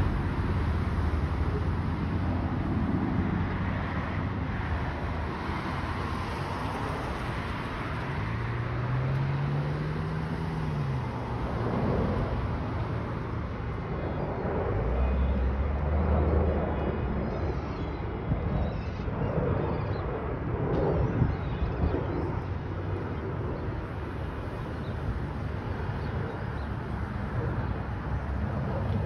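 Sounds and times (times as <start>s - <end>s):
low engine hum: 0.0s - 29.0s
road traffic: 0.0s - 29.0s.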